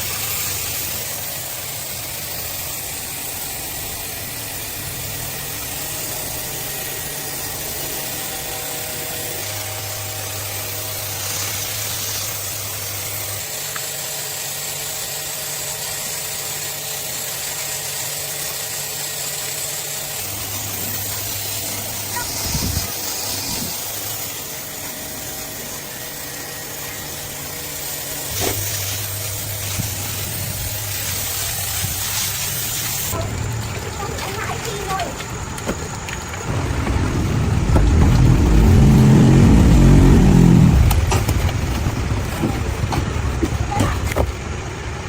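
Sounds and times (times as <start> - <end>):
motor running with hiss: 0.0 - 45.0.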